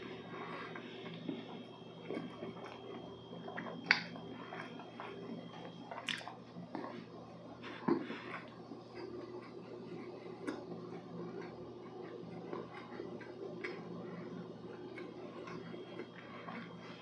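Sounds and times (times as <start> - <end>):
close chewing of soft cake: 0.0 - 17.0.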